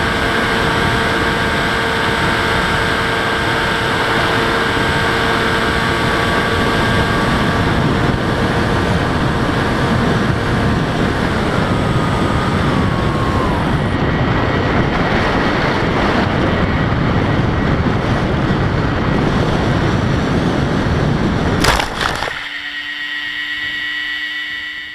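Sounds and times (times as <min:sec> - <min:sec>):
wind rush over microphone: 0:00.0 - 0:22.4
electric motor and propeller whine: 0:00.0 - 0:24.9.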